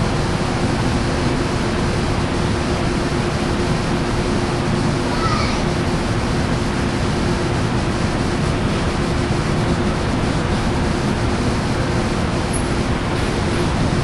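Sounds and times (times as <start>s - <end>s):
diesel locomotive idling: 0.0s - 14.0s.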